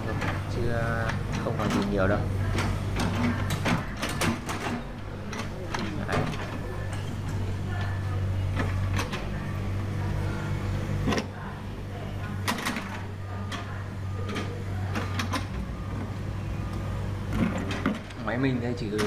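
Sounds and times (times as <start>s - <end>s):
excavator engine hum: 0.0s - 19.0s.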